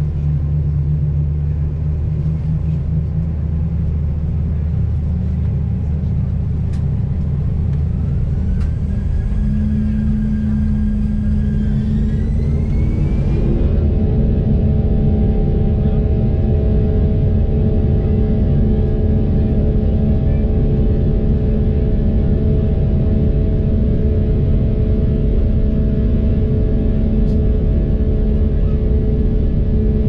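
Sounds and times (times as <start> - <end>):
jet engines rumbling: 0.0 - 30.0
jet fan whine: 0.0 - 30.0.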